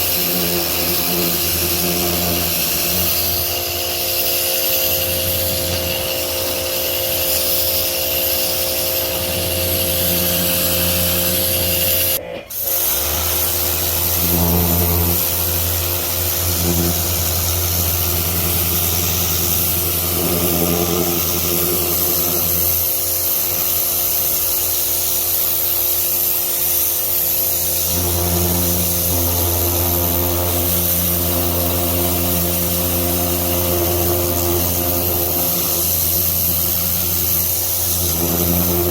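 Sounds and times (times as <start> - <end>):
pressure washer motor hum: 0.0 - 38.9
water spray hissing: 0.0 - 38.9.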